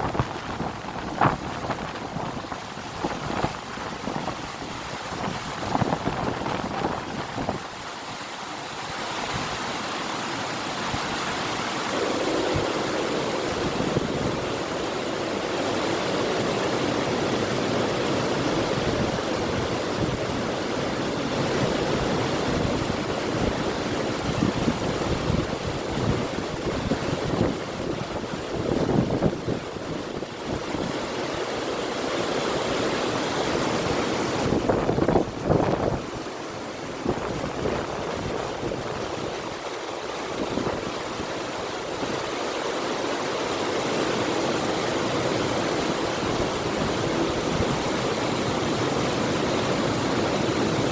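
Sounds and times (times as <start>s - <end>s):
river water flowing: 0.0s - 50.9s
wind gusting on microphone: 0.0s - 50.9s.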